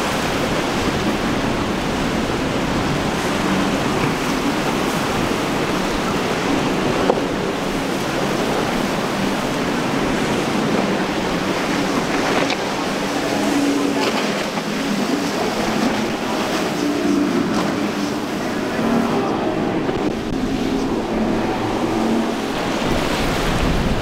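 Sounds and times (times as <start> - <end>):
faint drone of outboard motors: 0.0 - 24.0
rough surf breaking: 0.0 - 24.0
wind buffeting microphone: 0.0 - 24.0.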